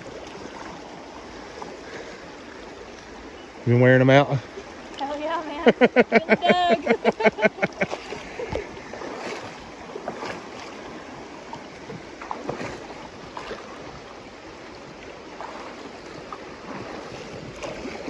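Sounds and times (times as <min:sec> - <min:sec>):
faint ticks and splashes: 0:00.0 - 0:18.0
stream rushing over rocks: 0:00.0 - 0:18.0.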